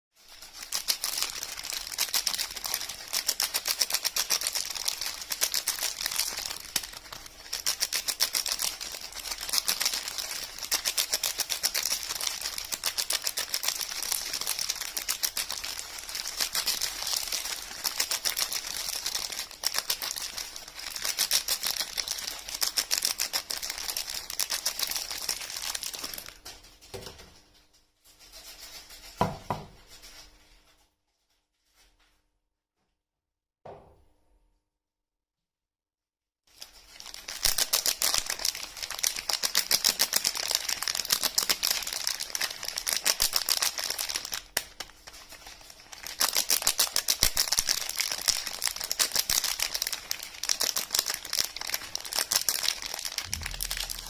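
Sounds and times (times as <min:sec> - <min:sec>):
packaging crackling: 0:00.2 - 0:26.4, 0:36.5 - 0:54.0.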